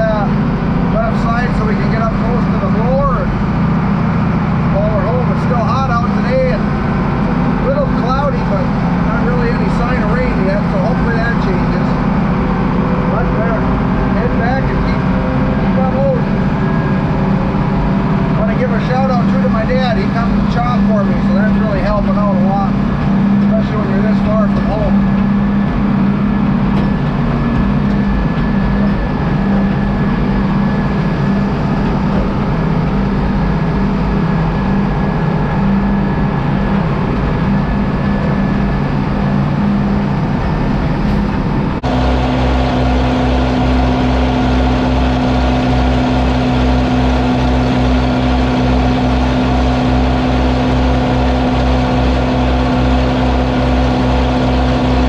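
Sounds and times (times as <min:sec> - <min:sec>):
silage blower droning: 0:00.0 - 0:55.0
tractor diesel engine running: 0:00.0 - 0:55.0.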